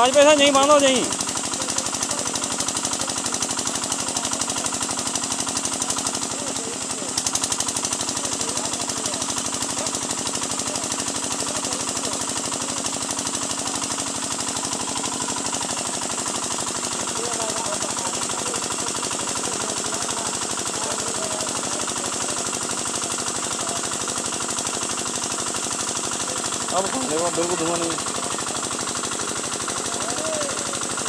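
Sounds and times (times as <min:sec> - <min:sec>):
engine pounding steadily: 0:00.0 - 0:31.0.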